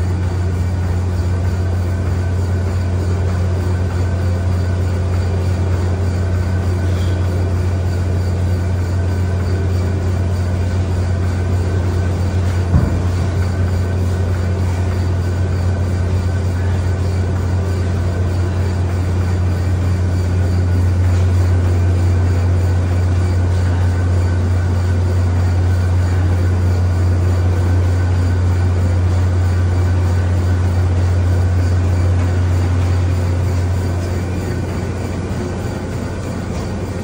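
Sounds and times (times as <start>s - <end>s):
treadmill motor hum: 0.0s - 37.0s.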